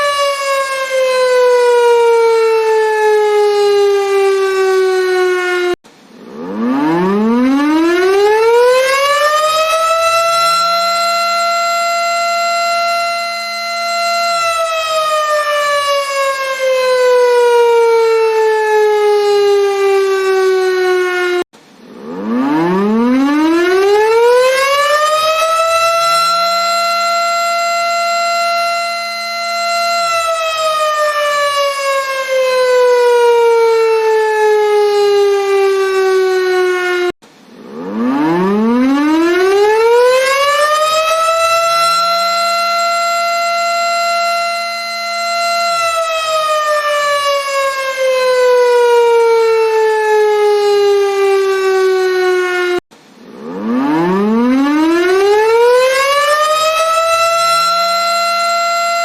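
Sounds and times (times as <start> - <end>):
air-raid siren wailing: 0.0 - 59.0.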